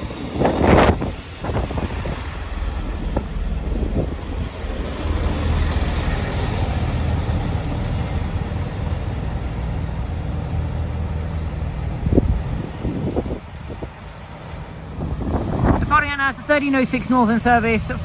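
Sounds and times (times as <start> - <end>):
train diesel engine rumbling: 0.0 - 18.0.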